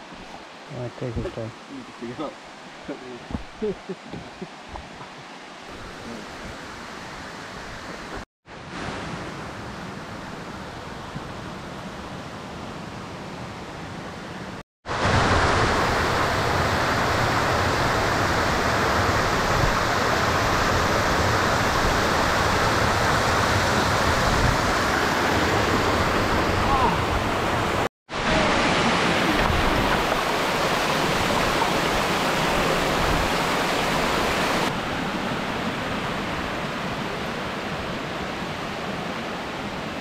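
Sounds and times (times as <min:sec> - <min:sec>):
rushing water: 0:00.0 - 0:40.0.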